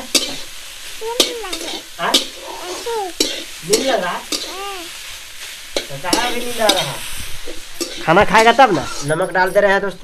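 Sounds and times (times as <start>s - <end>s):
metal spatula scraping a pan: 0.0s - 9.7s
food sizzling: 0.0s - 10.0s.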